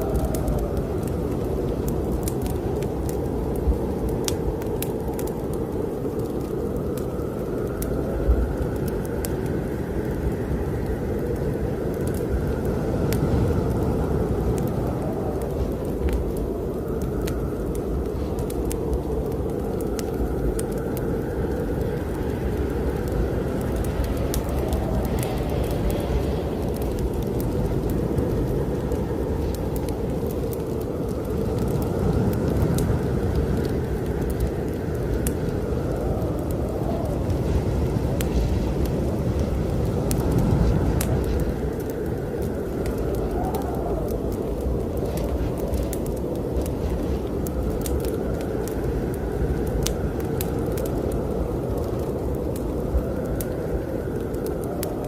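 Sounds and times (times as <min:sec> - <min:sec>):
faint wind whistle: 0:00.0 - 0:55.0
strong wind blowing: 0:00.0 - 0:55.0
wood fire crackling: 0:00.0 - 0:55.0.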